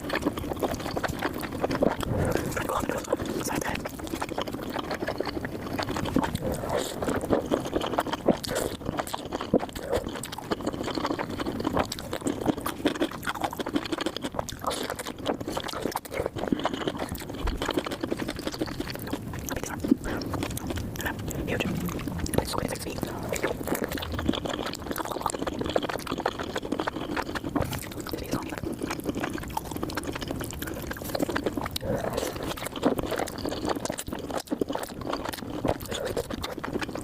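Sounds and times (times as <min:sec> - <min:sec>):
mouth chewing food: 0:00.0 - 0:37.0.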